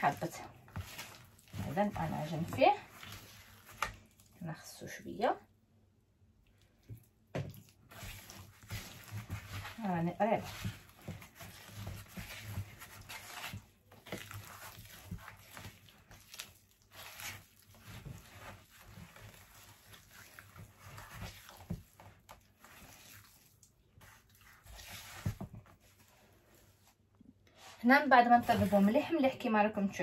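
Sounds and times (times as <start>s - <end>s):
hand squelching thick glaze: 0.0s - 4.4s, 6.5s - 26.8s, 27.5s - 29.1s.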